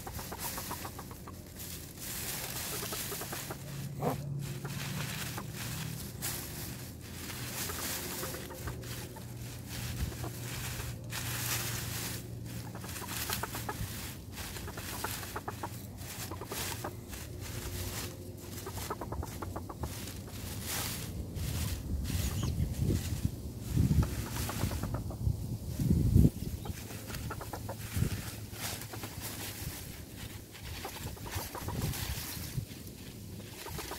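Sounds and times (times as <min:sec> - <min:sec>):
hens clucking softly: 0:00.0 - 0:22.6, 0:23.6 - 0:33.9
dry leaves rustling and crackling: 0:00.0 - 0:33.9.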